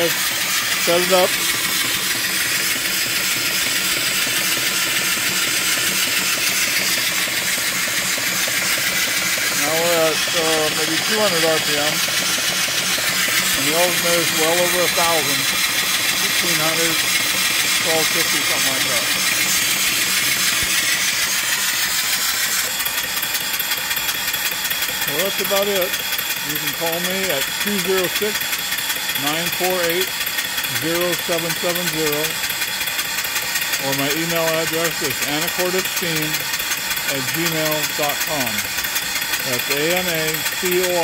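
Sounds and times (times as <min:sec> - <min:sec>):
steam engine rhythmic beat: 0:00.0 - 0:41.0.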